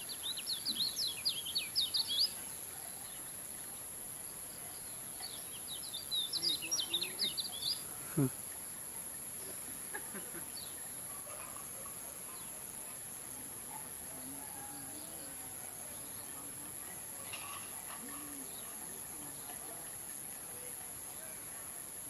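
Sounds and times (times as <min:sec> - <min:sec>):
songbird chirping: 0:00.0 - 0:22.0.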